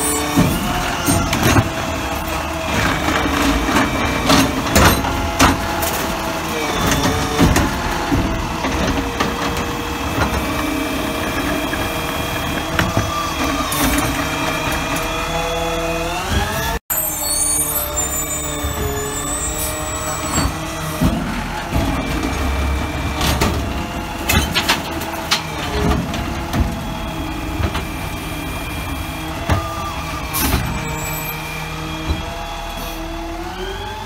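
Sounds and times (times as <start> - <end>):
cart clanking and banging: 0.0 - 34.0
diesel engine running: 0.0 - 34.0
hydraulic whine: 0.0 - 34.0.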